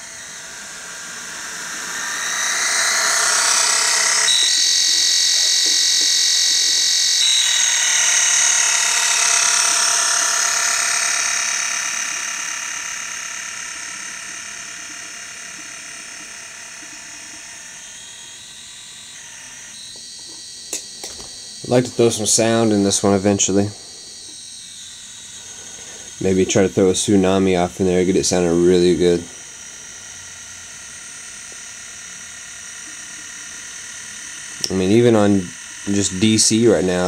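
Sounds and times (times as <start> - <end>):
model train motor whine: 0.0 - 37.0.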